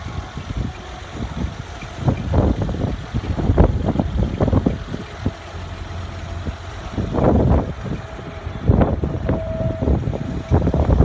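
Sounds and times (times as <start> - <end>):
car engine idling: 0.0 - 11.0
wind buffeting the microphone: 0.0 - 11.0.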